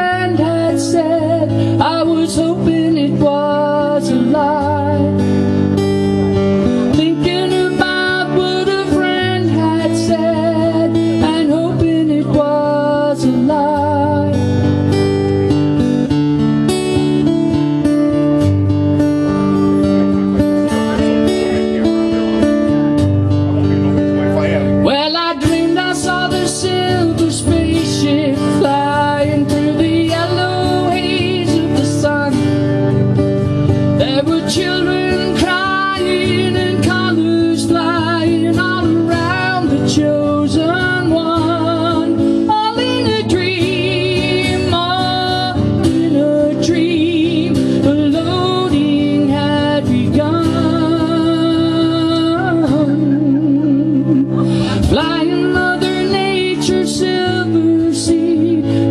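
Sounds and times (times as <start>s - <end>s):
acoustic guitar playing: 0.0s - 58.9s.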